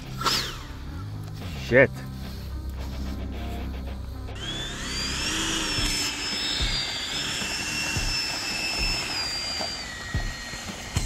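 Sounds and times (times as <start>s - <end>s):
electric ducted fan whine: 0.0s - 11.0s.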